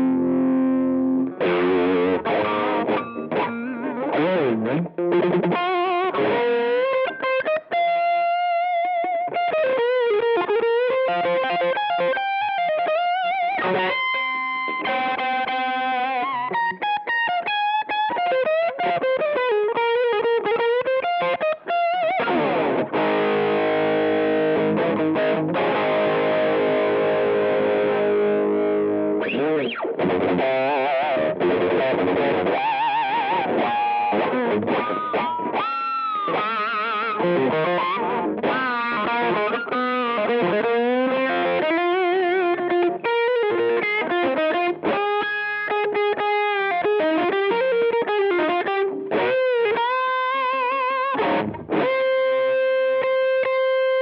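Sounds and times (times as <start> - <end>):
electric guitar chord ringing: 0.0 - 54.0
electric guitar lead with bends: 0.0 - 54.0.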